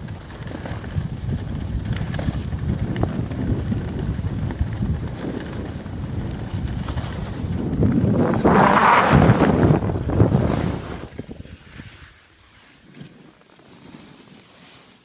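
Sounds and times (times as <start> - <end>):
wind buffeting microphone: 0.0 - 12.0
skis running over snow: 0.0 - 15.0.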